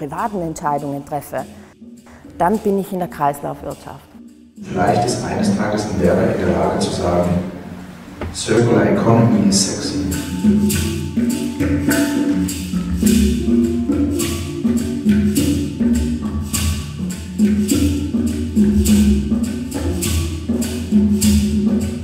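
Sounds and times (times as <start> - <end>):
low sustained notes: 0.0 - 22.0
percussion beat: 0.0 - 22.0.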